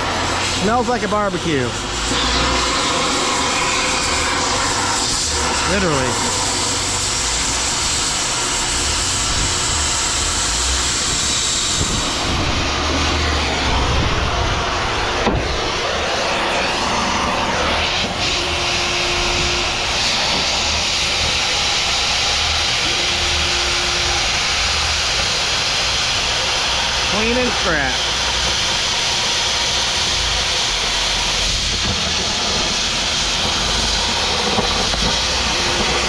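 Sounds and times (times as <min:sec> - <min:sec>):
cutting torch hissing: 0:00.0 - 0:36.0.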